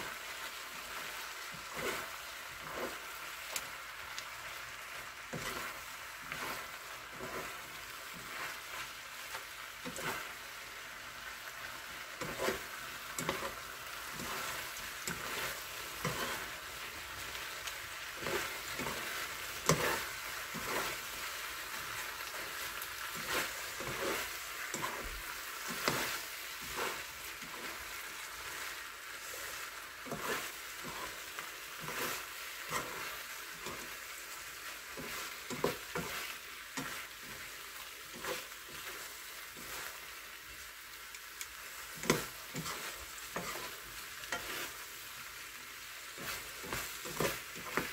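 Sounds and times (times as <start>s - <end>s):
food sizzling in frying pan: 0.0s - 47.9s
utensils scraping pan: 0.8s - 3.7s, 5.3s - 10.4s, 12.1s - 16.7s, 17.3s - 40.0s, 41.9s - 44.9s, 46.1s - 47.9s.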